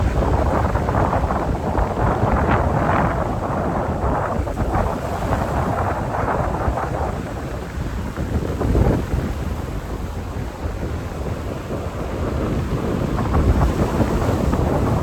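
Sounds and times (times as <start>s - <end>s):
sea rushing: 0.0s - 15.0s
wind buffeting microphone: 0.0s - 15.0s.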